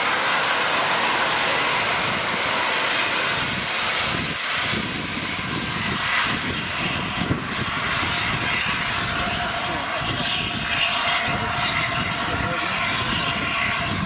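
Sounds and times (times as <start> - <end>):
low rumbling: 0.0 - 14.0
train rushing at speed: 0.0 - 14.0.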